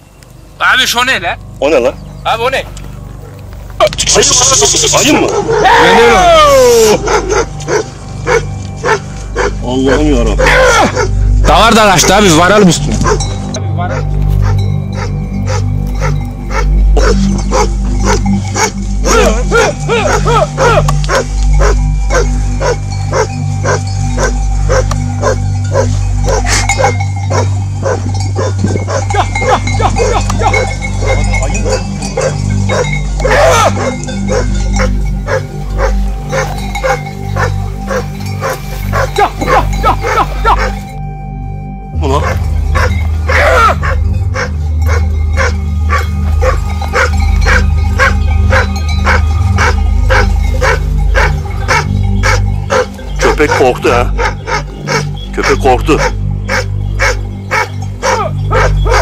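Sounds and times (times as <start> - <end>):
background music: 0.0 - 59.0
dogs barking rapidly: 4.8 - 6.2, 6.8 - 41.0, 42.2 - 59.0.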